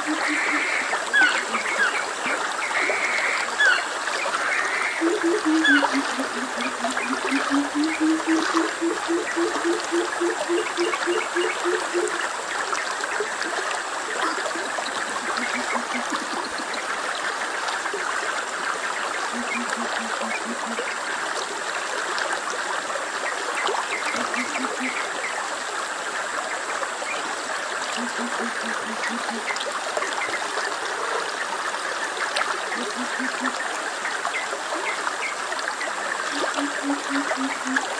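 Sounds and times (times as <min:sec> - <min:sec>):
stream flowing: 0:00.0 - 0:37.9.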